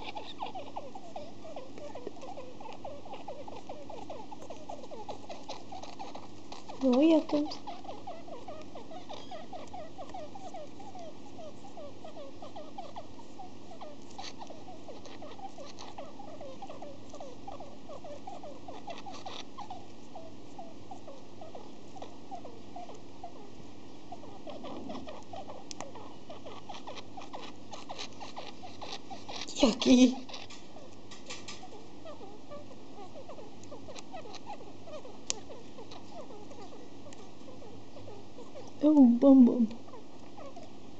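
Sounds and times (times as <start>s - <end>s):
budgie squeaking softly: 0.0s - 40.8s.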